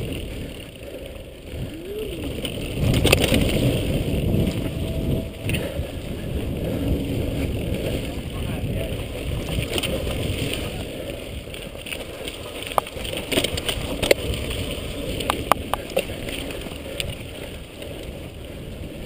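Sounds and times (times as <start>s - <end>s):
tyres on dirt: 0.0s - 18.2s
bike clicking and rattling: 0.0s - 19.0s
wind rumbling on microphone: 0.0s - 19.0s.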